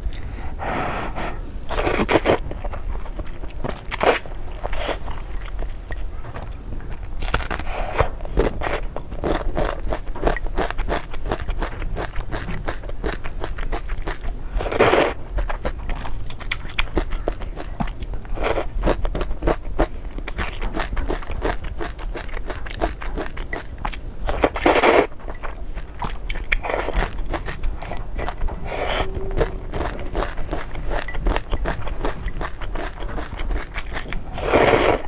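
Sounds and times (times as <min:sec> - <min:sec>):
crunching and crackling: 0:01.6 - 0:35.0.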